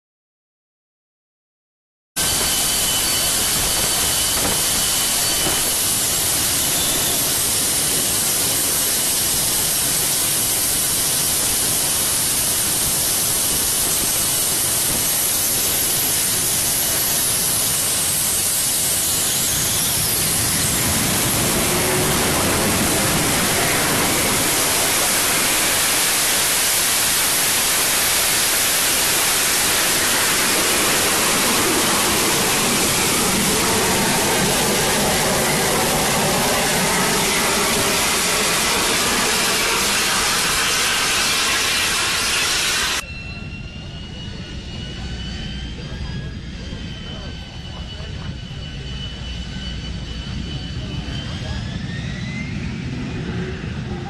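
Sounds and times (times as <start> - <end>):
high jet engine whine: 2.2 - 54.0
jet engine roar: 2.2 - 54.0.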